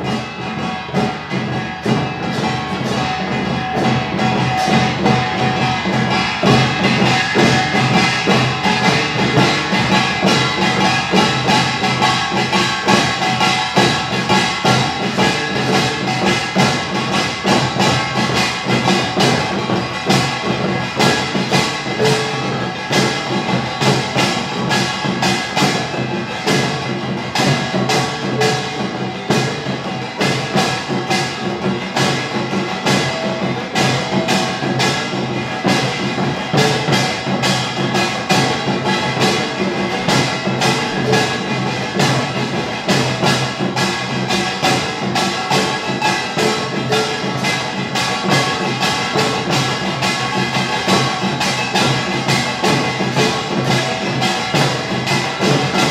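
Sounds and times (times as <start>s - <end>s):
gongs ringing: 0.0s - 55.9s
percussion ensemble drumming: 0.0s - 55.9s.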